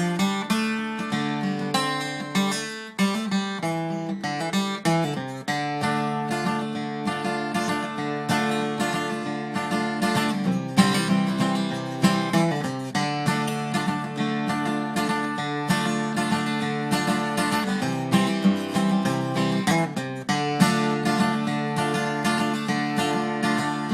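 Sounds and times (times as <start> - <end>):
acoustic guitar plucking and strumming: 0.0 - 23.9.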